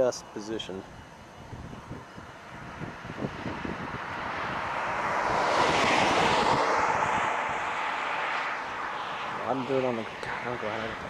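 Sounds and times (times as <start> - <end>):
vehicle passing on highway: 0.0 - 11.0
wind buffeting microphone: 0.8 - 11.0.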